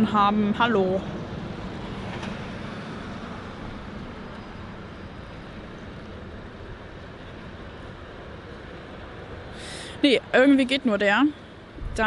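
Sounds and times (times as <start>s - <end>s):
road traffic hiss: 0.0s - 12.0s.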